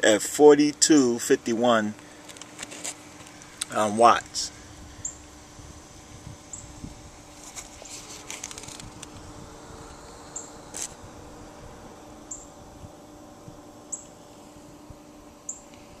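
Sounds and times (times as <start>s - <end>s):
inverter humming: 0.0s - 16.0s.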